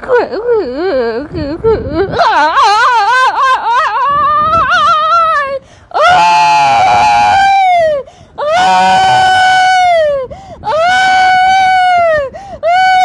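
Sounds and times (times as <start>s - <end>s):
woman screaming: 2.2s - 13.0s.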